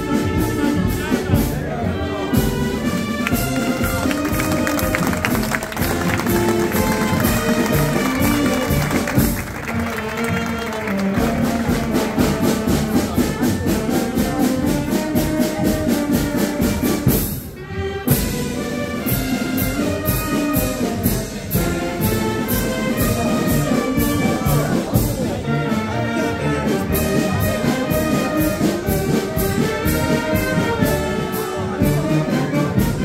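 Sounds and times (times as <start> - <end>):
percussion beat: 0.0 - 25.4, 26.7 - 33.0
brass band playing: 0.0 - 33.0.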